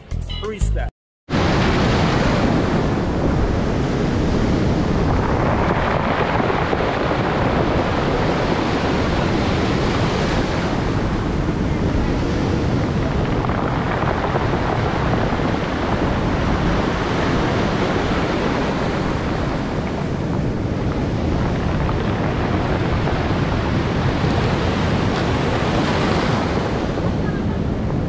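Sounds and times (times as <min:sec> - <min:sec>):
ocean surf breaking: 0:01.3 - 0:28.0
wind buffeting microphone: 0:01.3 - 0:28.0.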